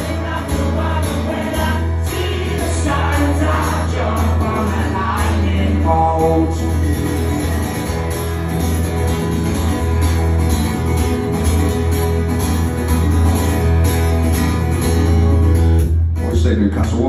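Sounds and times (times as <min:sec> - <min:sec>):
acoustic guitar strumming: 0:00.0 - 0:16.4.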